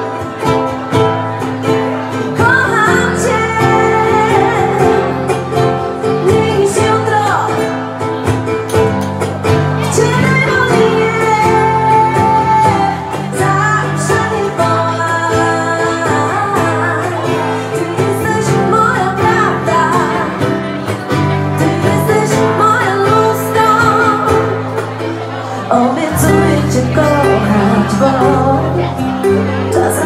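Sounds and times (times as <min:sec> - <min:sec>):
woman singing pop song: 0:00.0 - 0:08.5, 0:09.5 - 0:30.0
acoustic guitar: 0:00.0 - 0:30.0.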